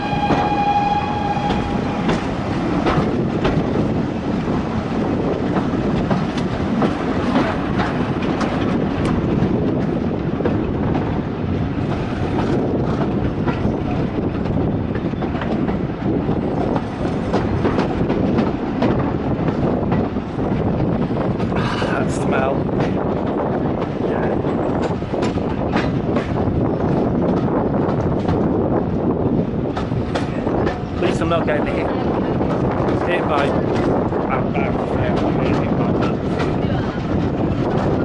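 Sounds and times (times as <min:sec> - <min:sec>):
railway carriage rumble: 0:00.0 - 0:38.0.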